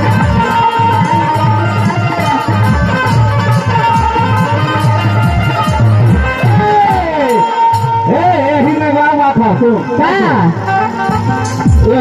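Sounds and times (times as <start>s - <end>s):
steady drum beat: 0.0s - 9.0s, 10.2s - 12.0s
folk dance music over loudspeaker: 0.0s - 12.0s.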